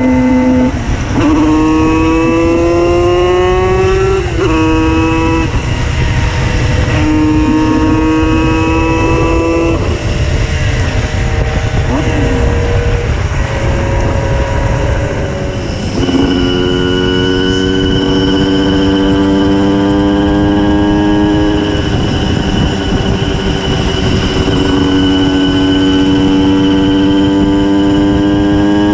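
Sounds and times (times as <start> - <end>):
two-stroke moped engine revving: 0.0 - 28.9.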